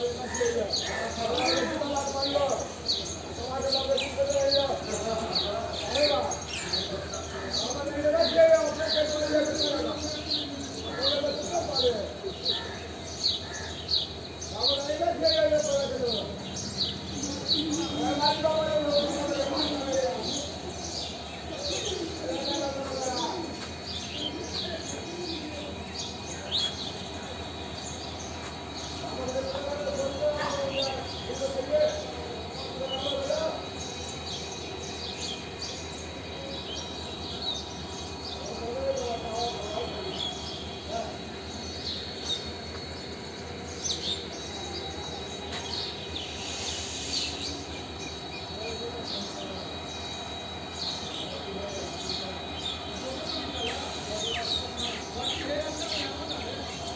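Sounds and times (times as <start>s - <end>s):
outdoor background noise: 0.0s - 56.9s
small birds chirping: 0.0s - 56.9s.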